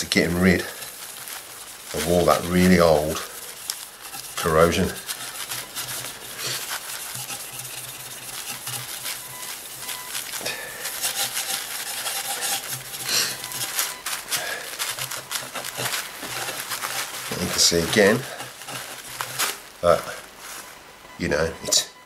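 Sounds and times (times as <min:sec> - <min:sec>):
cloth pad scrubbing metal: 0:00.0 - 0:20.4.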